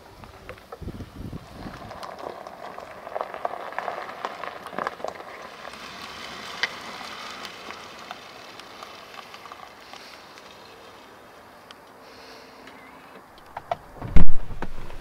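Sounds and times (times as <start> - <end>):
tyres rolling over grit: 0.0 - 13.0.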